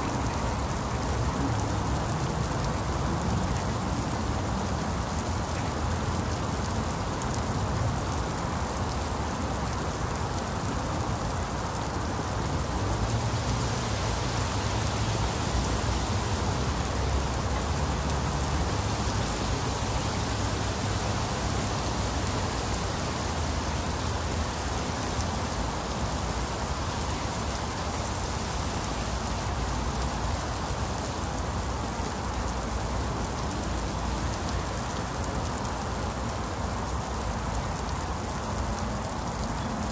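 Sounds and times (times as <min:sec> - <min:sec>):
heavy rain on pavement and foliage: 0:00.0 - 0:39.9.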